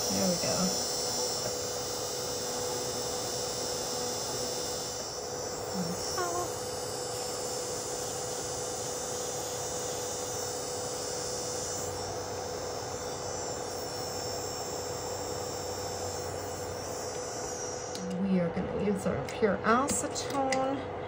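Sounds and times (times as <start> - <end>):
dust collector fan whooshing: 0.0 - 20.2.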